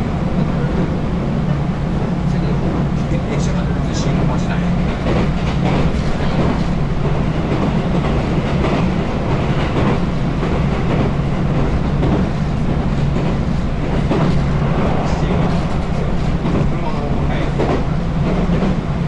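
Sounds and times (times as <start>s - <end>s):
train running rumble: 0.0s - 19.0s.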